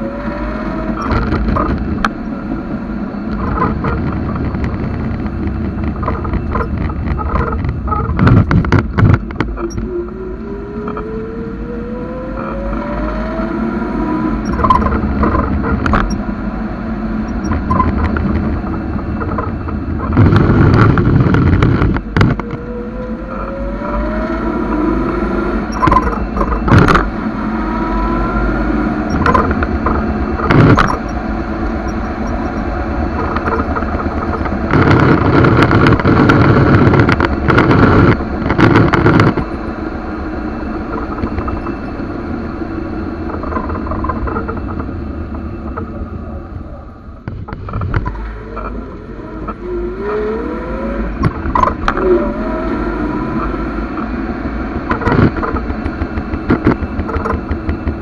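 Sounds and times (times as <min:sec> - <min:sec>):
car engine accelerating: 0:00.0 - 0:58.0
constant low rumble: 0:00.0 - 0:58.0.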